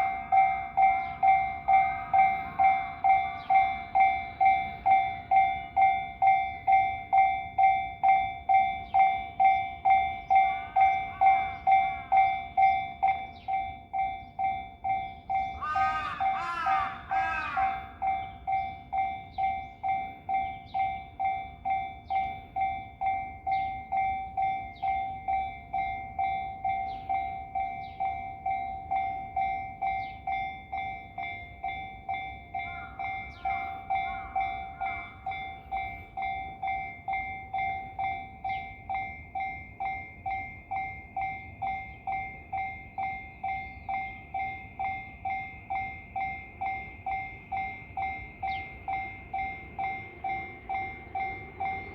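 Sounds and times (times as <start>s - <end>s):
level crossing warning bell: 0.0s - 51.9s.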